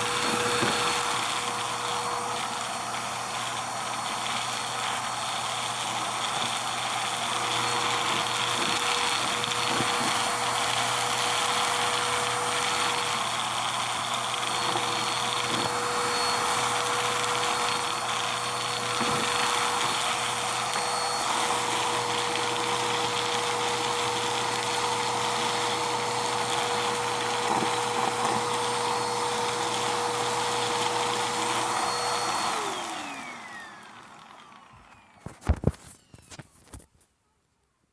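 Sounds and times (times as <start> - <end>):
vacuum cleaner whine: 0.0 - 36.7.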